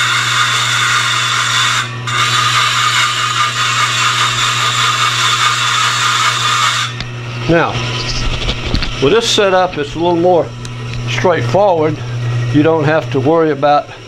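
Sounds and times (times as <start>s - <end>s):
blade grinding on spinning disc: 0.0s - 14.0s
milling machine hum: 0.0s - 14.0s.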